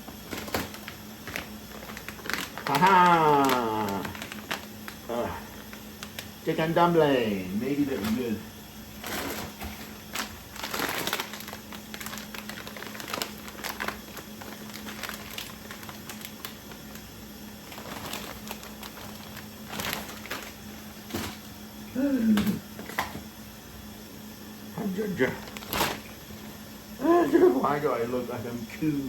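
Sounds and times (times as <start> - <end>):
plastic wrappers crinkling: 0.0 - 21.7, 24.8 - 26.8.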